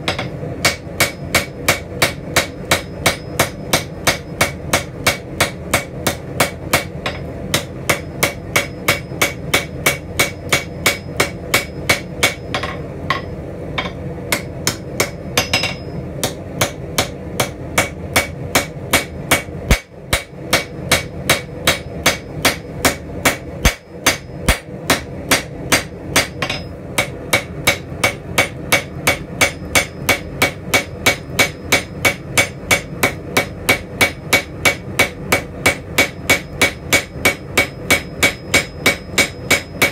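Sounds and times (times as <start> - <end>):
hammer striking steel on anvil: 0.0 - 39.9.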